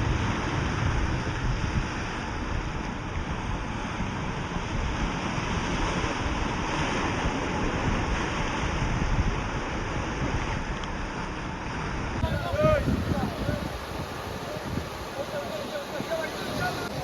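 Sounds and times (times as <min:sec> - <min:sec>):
sea surf washing: 0:00.0 - 0:17.0
wind buffeting microphone: 0:00.0 - 0:17.0.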